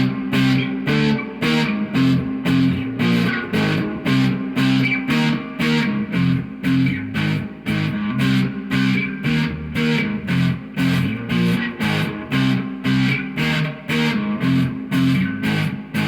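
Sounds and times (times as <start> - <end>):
electric guitar strummed riff: 0.0 - 16.0.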